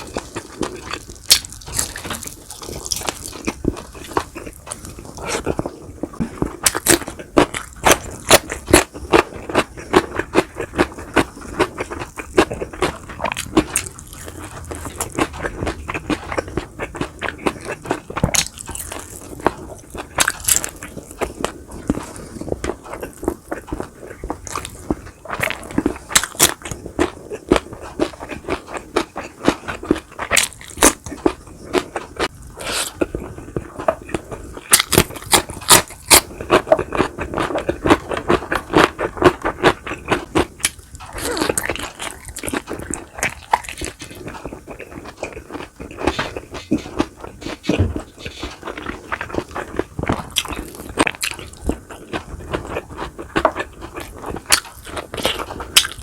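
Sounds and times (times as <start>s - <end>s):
crunchy food chewing: 0.0s - 56.0s.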